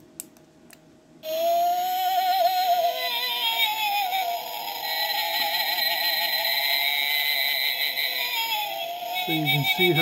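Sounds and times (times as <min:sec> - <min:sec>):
warbling electronic toy tones: 0:01.2 - 0:10.0.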